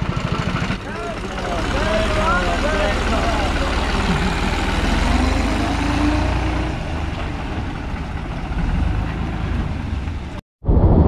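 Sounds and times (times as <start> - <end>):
tractor diesel engine running: 0.0 - 10.4.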